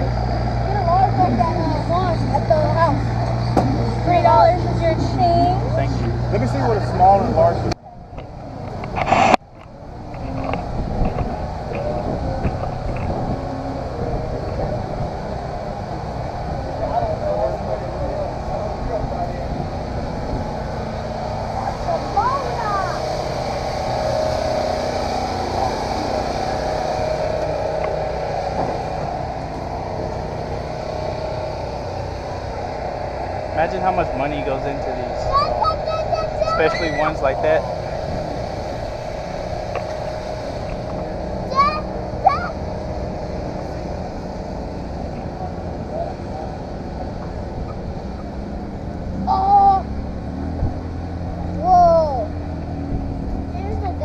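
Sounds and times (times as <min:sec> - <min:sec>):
engines droning: 0:00.0 - 0:54.0.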